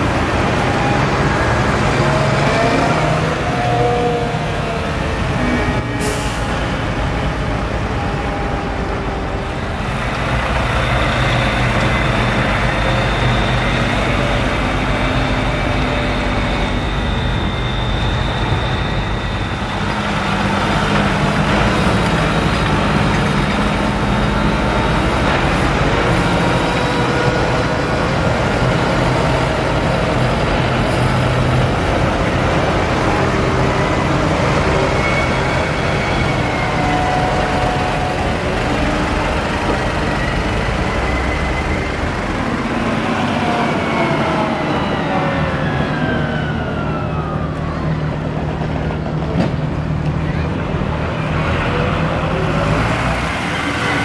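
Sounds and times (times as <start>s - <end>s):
tractor diesel engines: 0.0s - 54.0s.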